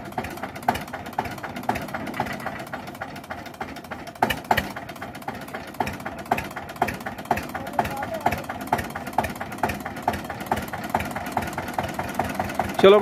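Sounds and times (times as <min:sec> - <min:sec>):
sharp engine knock: 0:00.0 - 0:13.0
tractor diesel engine running: 0:00.0 - 0:13.0.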